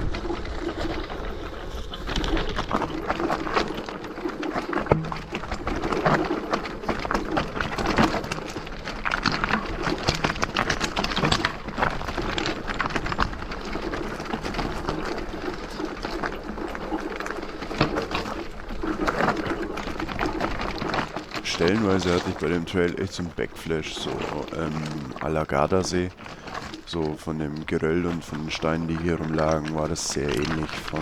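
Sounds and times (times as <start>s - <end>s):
bike rattling and knocking: 0.0s - 31.0s
tyres crunching on stones: 0.1s - 31.0s.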